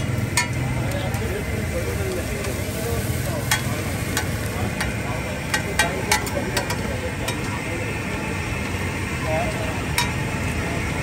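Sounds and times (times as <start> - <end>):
liver sizzling on griddle: 0.0 - 11.0.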